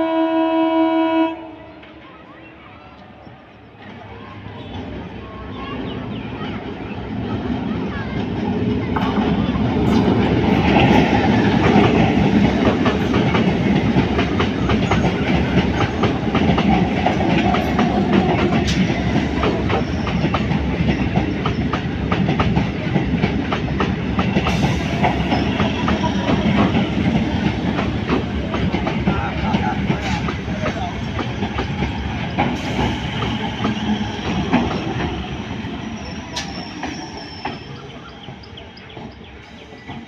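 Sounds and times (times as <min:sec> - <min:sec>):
train passing over bridge: 0:00.0 - 0:40.0.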